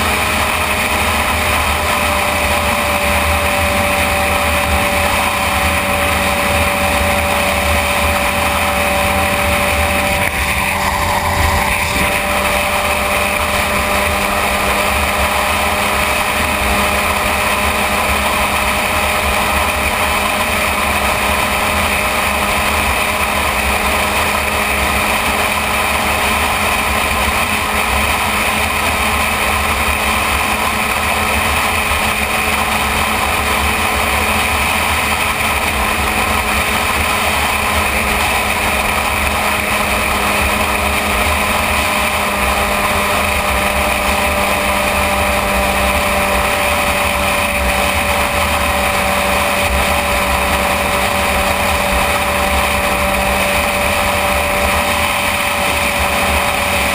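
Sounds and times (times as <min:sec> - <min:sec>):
motorcycle engine cruising: 0:00.0 - 0:56.9
wind rush at speed: 0:00.0 - 0:56.9.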